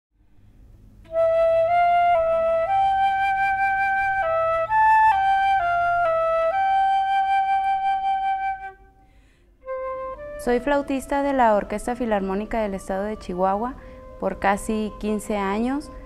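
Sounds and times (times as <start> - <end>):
flute melody: 1.1 - 16.0.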